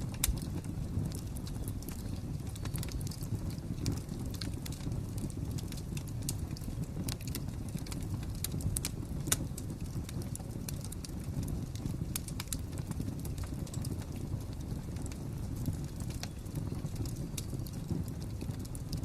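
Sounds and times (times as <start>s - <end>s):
fire crackling: 0.0s - 19.0s.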